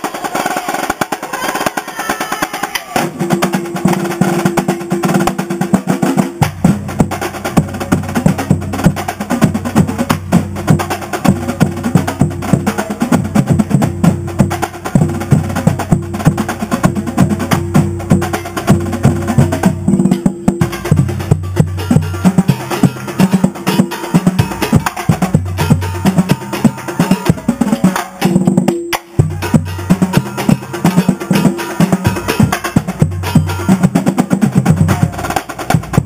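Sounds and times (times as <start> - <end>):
snare and tenor drum cadence: 0.0 - 36.0.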